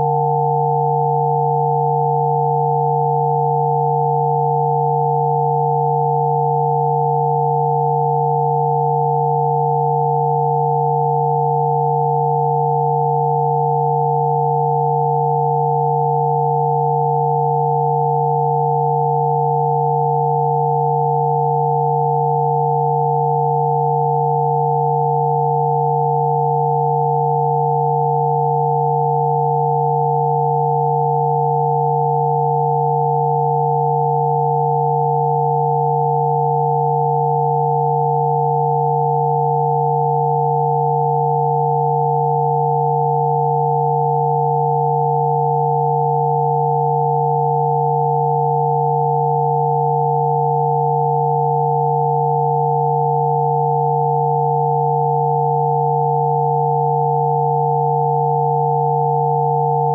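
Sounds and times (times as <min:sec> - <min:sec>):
steady sine tones: 0:00.0 - 0:59.9.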